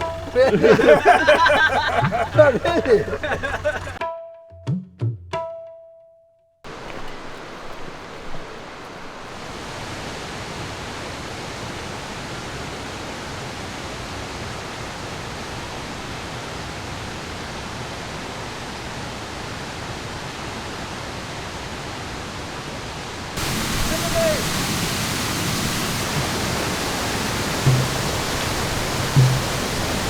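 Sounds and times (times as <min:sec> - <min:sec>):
water rushing: 0:00.0 - 0:04.0, 0:06.7 - 0:30.0.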